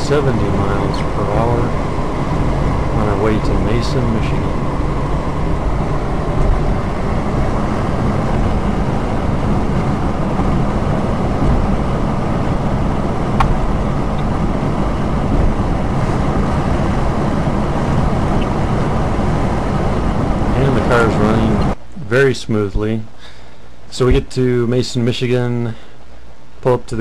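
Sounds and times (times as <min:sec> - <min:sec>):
car cabin road rumble: 0:00.0 - 0:21.8, 0:24.0 - 0:24.4.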